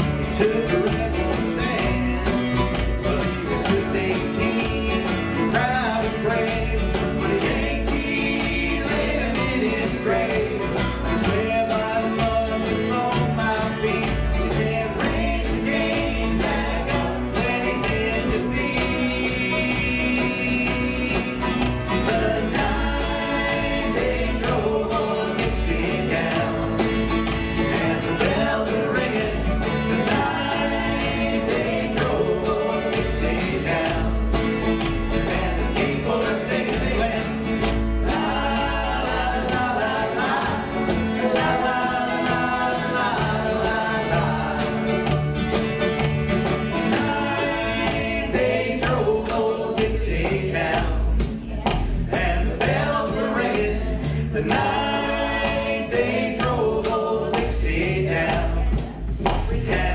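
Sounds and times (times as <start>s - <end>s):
strummed acoustic guitars: 0.0s - 59.9s
upright double bass: 0.0s - 59.9s.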